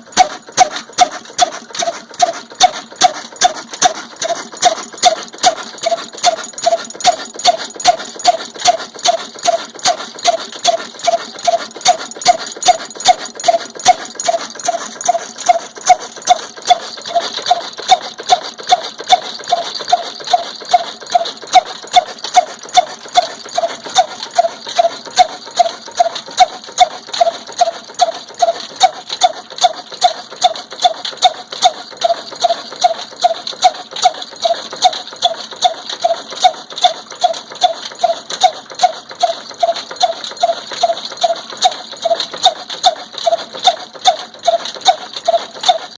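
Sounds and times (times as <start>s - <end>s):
diesel engine exhaust beats: 0.0s - 45.9s.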